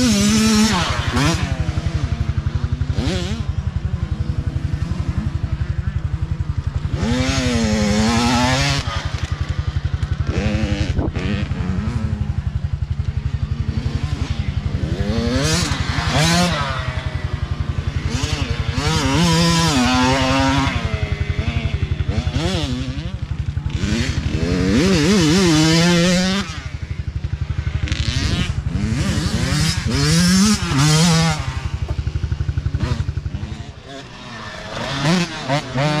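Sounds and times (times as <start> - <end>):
dirt bikes revving past: 0.0 - 36.0.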